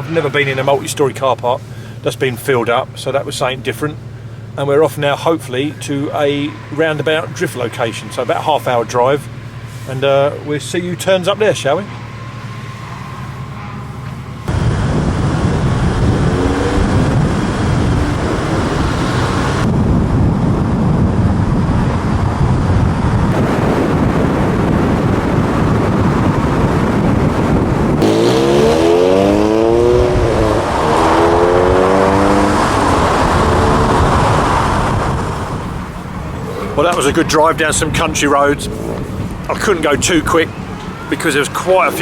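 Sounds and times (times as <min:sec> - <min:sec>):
car engines and tyre roar: 0:00.0 - 0:42.0
engine revving under acceleration: 0:03.6 - 0:42.0.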